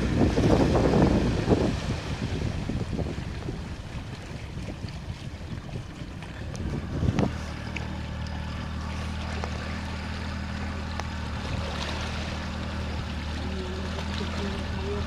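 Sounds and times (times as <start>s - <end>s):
wind buffeting microphone: 0.0s - 13.2s
motorboat engine running: 0.0s - 15.0s.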